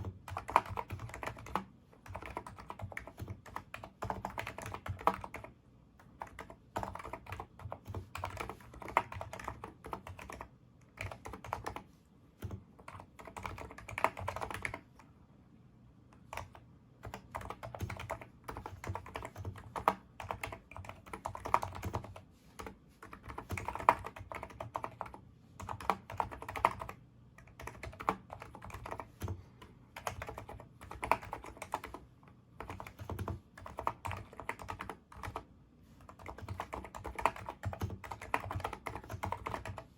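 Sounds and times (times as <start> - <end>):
keyboard typing: 0.0 - 15.1, 16.2 - 39.9.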